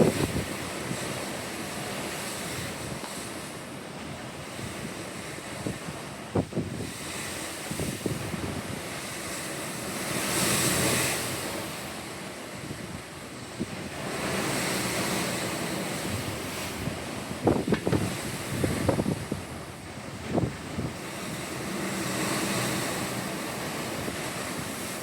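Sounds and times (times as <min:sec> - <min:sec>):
wind buffeting microphone: 0:00.0 - 0:11.9, 0:12.5 - 0:25.0
ocean waves washing in: 0:00.0 - 0:25.0.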